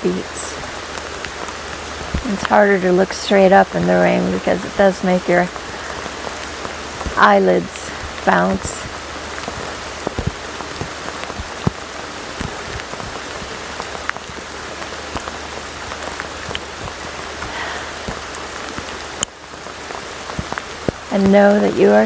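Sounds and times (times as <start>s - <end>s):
heavy rain falling: 0.0s - 22.0s
raindrops ticking close by: 0.0s - 22.0s.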